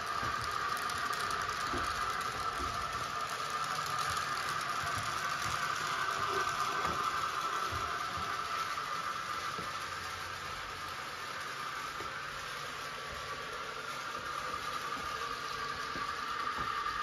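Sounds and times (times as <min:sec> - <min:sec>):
synthesized steam hiss: 0:00.0 - 0:17.0.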